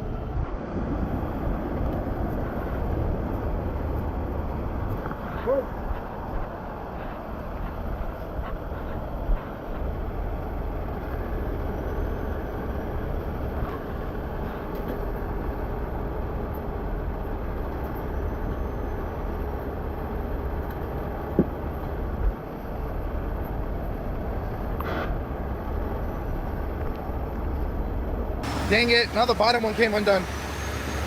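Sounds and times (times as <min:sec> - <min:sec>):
diesel engines rumbling: 0:00.0 - 0:31.0.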